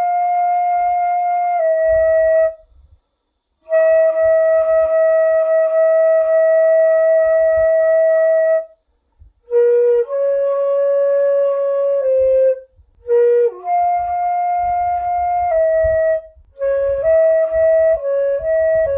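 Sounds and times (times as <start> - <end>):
bamboo flute melody: 0.0 - 2.8, 3.6 - 8.8, 9.4 - 18.9.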